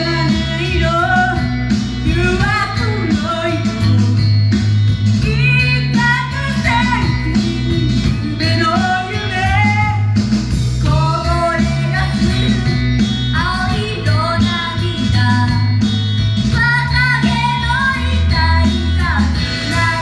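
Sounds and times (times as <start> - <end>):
band playing bass and guitar: 0.0 - 20.0
women singing pop-rock: 0.0 - 20.0.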